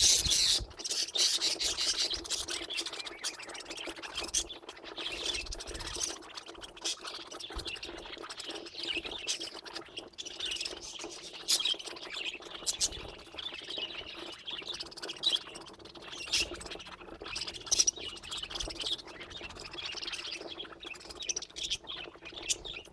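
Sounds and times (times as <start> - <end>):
budgerigars chattering and warbling: 0.0 - 22.9.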